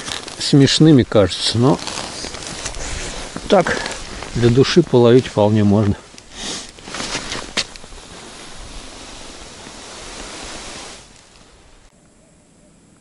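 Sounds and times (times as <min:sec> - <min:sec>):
rustling handling noise: 0:00.0 - 0:11.9
wind hiss on microphone: 0:00.0 - 0:13.0.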